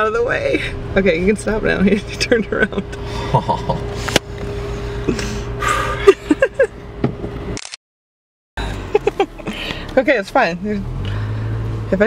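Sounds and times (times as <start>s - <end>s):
car engine hum with whine: 0.0s - 7.6s, 8.6s - 12.0s.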